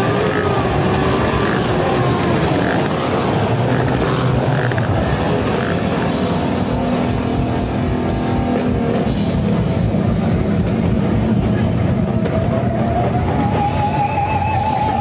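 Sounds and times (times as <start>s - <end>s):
rock music on guitar and drums: 0.0s - 15.0s.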